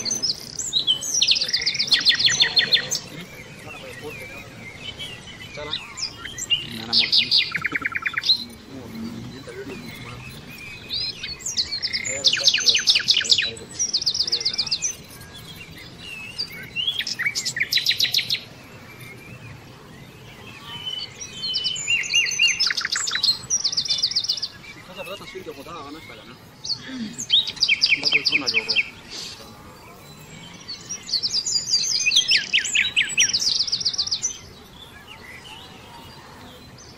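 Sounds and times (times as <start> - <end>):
small birds trilling: 0.0 - 36.9.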